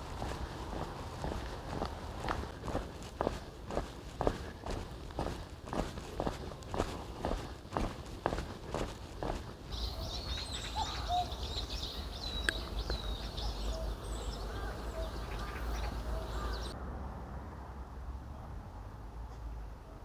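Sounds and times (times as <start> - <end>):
low outdoor rumble: 0.0 - 16.8
small birds chirping: 0.0 - 16.8.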